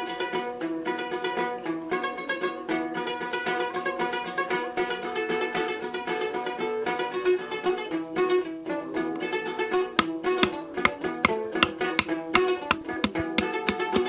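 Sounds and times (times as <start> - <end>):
plucked string instrumental music: 0.0 - 14.0.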